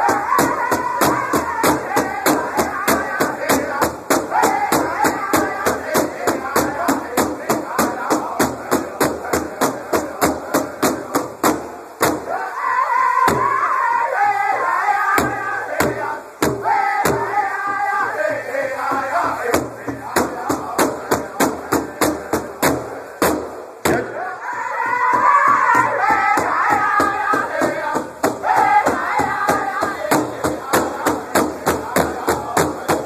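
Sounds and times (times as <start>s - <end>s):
large hide drum beaten in unison: 0.0s - 33.0s
men singing high-pitched song: 0.0s - 33.0s.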